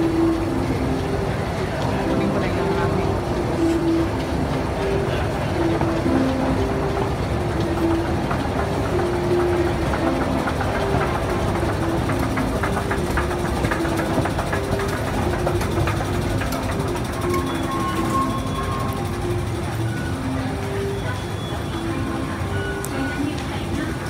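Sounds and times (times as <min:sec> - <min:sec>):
escalator mechanical rumble: 0:00.0 - 0:24.0.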